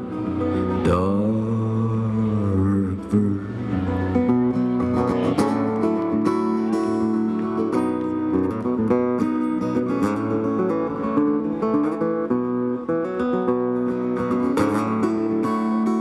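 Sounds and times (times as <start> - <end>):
acoustic guitars strummed and picked: 0.0 - 16.0.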